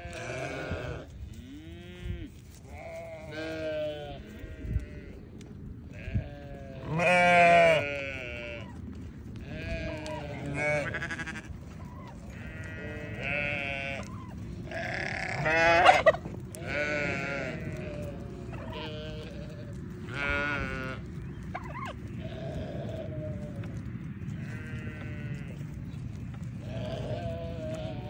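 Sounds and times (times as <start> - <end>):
sheep and goats bleating: 0.0 - 28.0.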